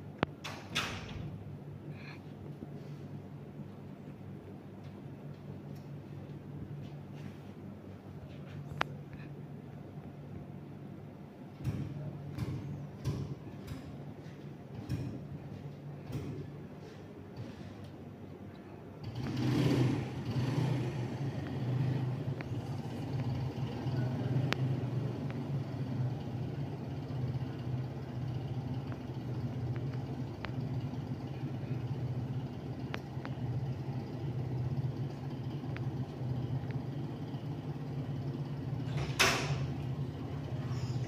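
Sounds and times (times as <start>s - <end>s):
ceiling fan motor hum: 0.0s - 41.0s.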